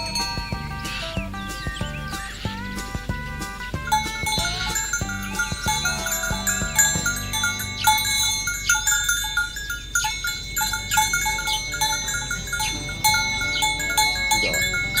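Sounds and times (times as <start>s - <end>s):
bells clinking: 0.0s - 1.1s, 3.9s - 15.0s.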